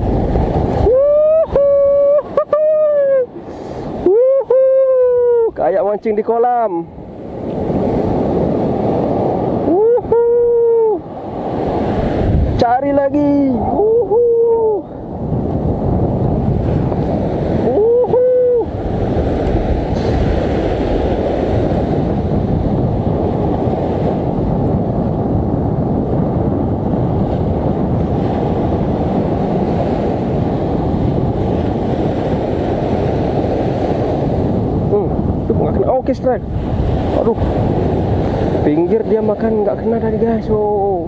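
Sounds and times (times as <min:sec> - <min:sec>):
surf breaking on beach: 0:00.0 - 0:41.0
wind buffeting microphone: 0:00.0 - 0:41.0.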